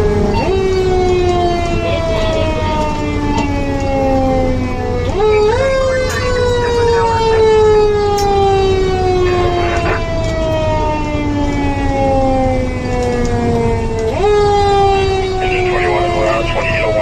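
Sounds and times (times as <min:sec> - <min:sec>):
fire engine siren wailing: 0:00.0 - 0:17.0
low engine rumble: 0:00.0 - 0:17.0.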